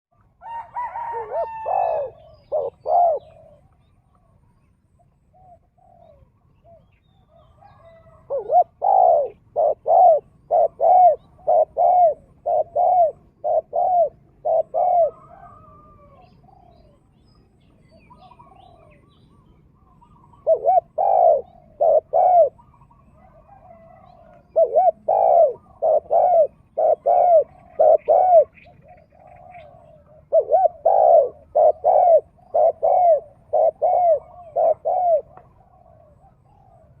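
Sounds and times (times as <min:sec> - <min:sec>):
doves cooing: 0:00.2 - 0:37.0
small birds chirping: 0:01.9 - 0:37.0.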